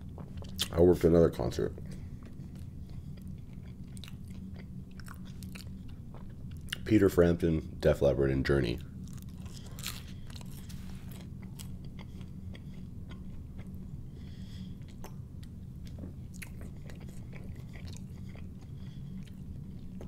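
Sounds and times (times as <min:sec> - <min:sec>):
man chewing crispy food: 0:00.0 - 0:00.8, 0:01.9 - 0:06.9, 0:08.8 - 0:20.0
steady low hum: 0:00.0 - 0:20.0.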